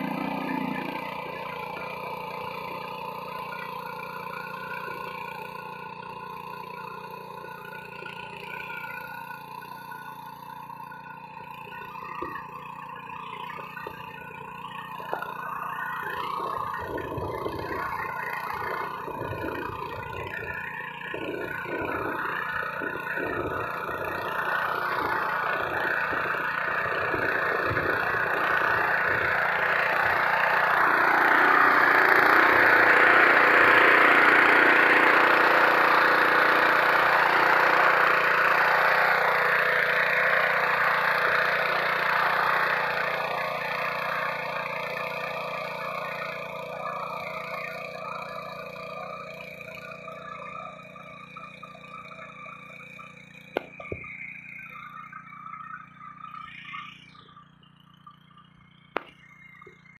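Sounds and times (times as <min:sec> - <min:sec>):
small petrol engine running: 0:00.0 - 0:59.9
tines churning dry soil: 0:00.0 - 0:59.9.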